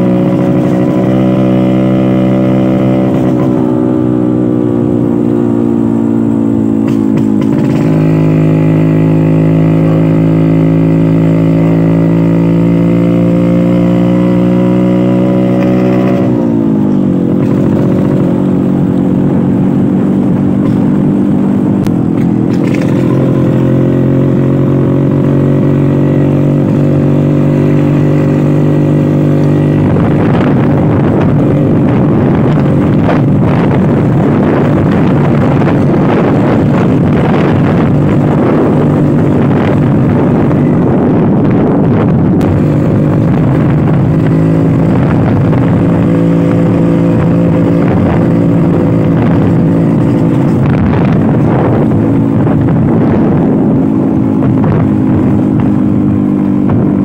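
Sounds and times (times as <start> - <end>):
scooter engine while riding: 0.0 - 57.0.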